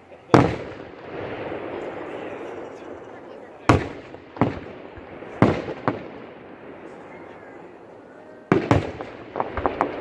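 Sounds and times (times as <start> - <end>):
fireworks bursting in sharp bangs: 0.0 - 10.0.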